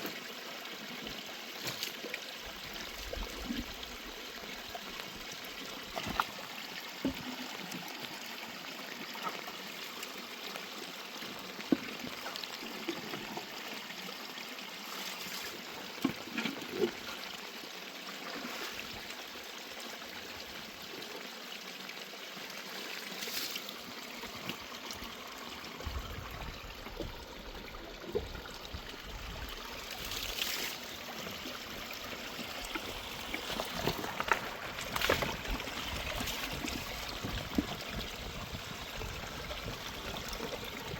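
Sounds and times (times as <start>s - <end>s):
water running like a stream: 0.0s - 40.9s.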